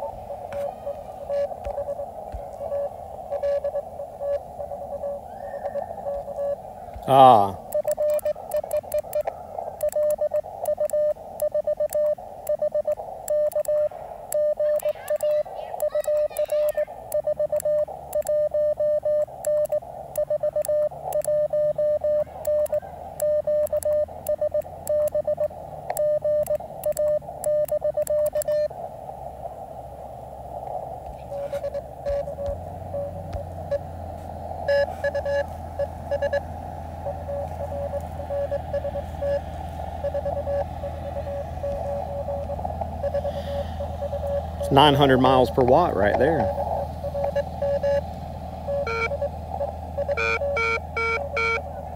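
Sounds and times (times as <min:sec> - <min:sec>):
morse code tone: 0:00.0 - 0:28.8, 0:30.7 - 0:51.9
faint morse signal: 0:00.0 - 0:51.9
radio band noise: 0:00.0 - 0:51.9.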